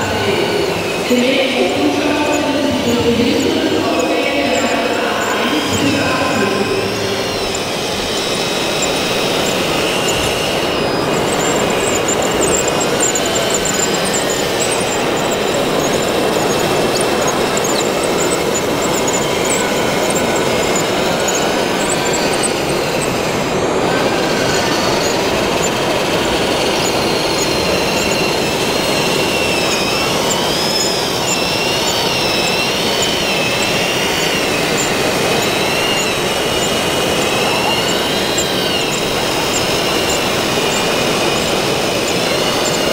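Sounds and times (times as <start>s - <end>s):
small electric motors whining: 0.0s - 42.9s
steady dense noise: 0.0s - 42.9s.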